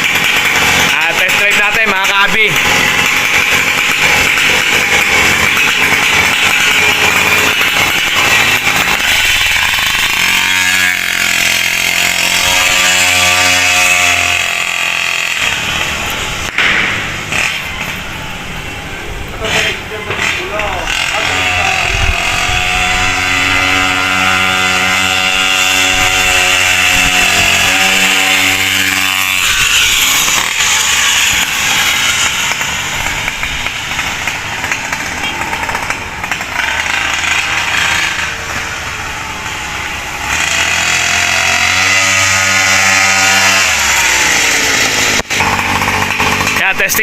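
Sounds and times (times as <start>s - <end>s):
two-stroke scooter engine running: 0.0s - 47.0s.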